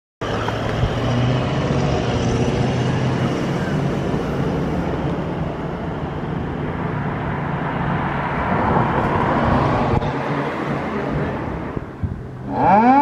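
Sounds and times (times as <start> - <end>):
street traffic noise: 0.2 - 13.0.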